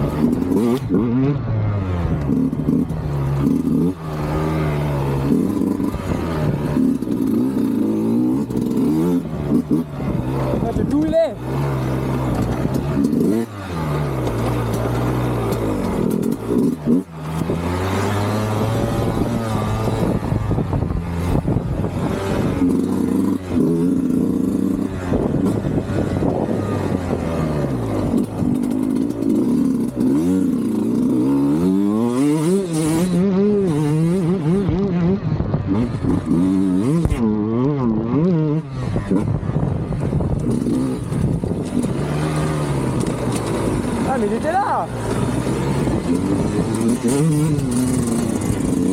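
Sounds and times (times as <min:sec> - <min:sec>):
two-stroke engine revving: 0:00.0 - 0:48.9.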